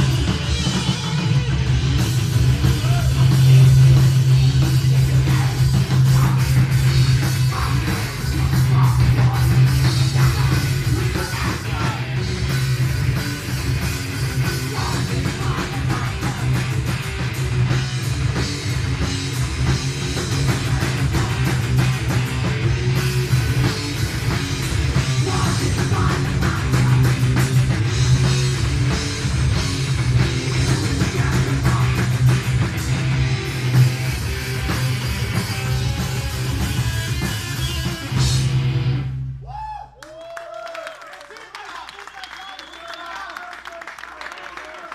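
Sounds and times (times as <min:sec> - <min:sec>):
distorted electric guitars: 0:00.0 - 0:39.4
drum kit: 0:00.0 - 0:39.6.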